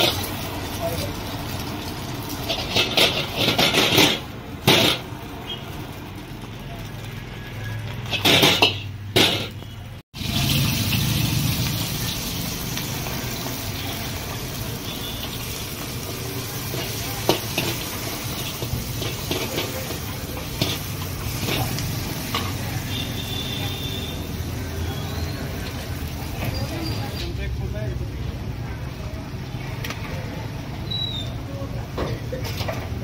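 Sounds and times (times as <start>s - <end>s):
food frying in a wok: 0.0s - 33.0s.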